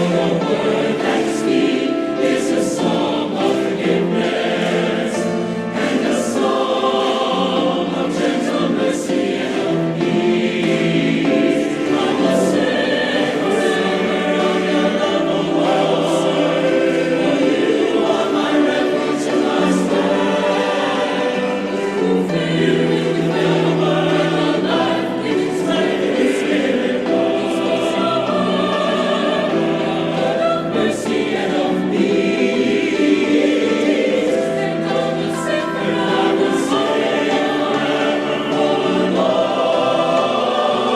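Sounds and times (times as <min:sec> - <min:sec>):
mixed choir singing chords: 0:00.0 - 0:40.9.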